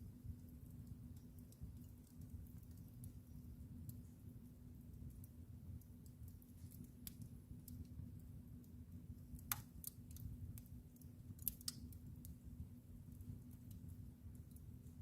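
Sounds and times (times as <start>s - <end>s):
wood fire crackling in fireplace: 0.0s - 15.0s.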